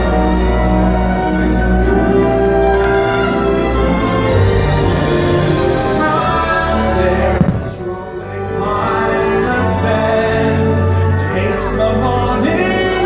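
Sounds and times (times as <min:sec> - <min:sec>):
orchestral music with singing: 0:00.0 - 0:13.0.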